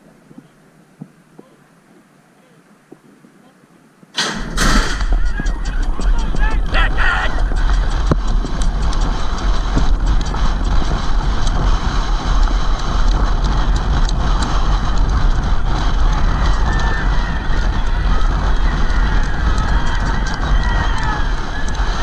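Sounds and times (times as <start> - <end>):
wind buffeting microphone: 2.7 - 22.0
hoofbeats on dirt: 4.3 - 22.0.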